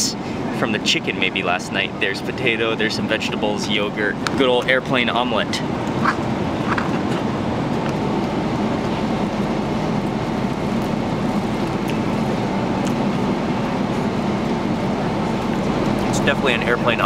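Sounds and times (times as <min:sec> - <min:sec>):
airliner cabin roar: 0:00.0 - 0:17.0.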